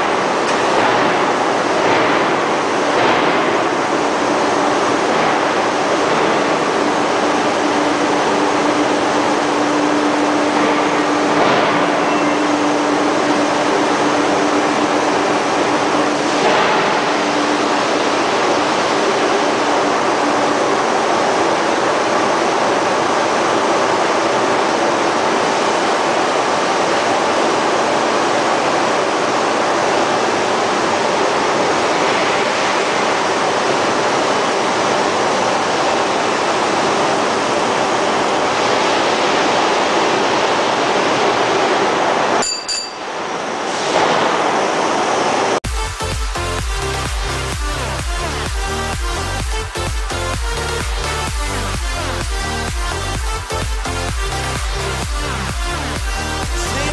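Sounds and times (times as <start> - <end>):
loud rushing factory noise: 0.0 - 56.9.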